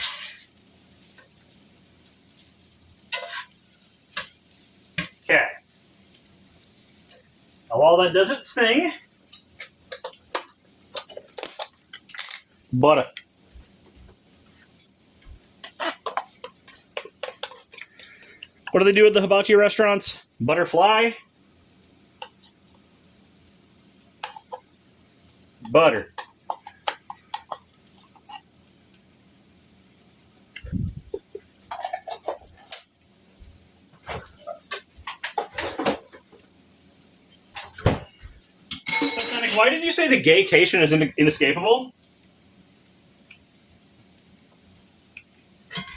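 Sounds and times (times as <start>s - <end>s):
rice sizzling in hot oil: 0.0s - 45.9s.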